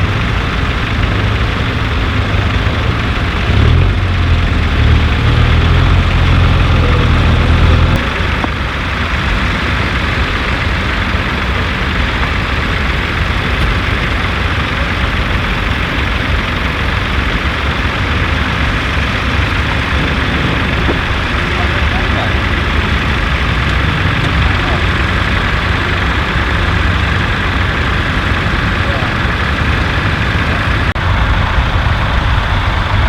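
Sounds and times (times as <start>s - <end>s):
deeper engine note: 0.0s - 33.0s
heavy engine running: 0.0s - 33.0s.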